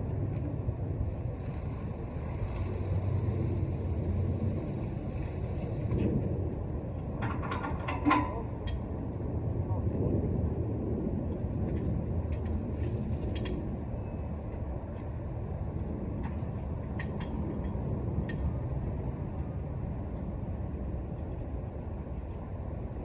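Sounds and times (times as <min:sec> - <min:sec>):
hvac unit low rumble: 0:00.0 - 0:23.0.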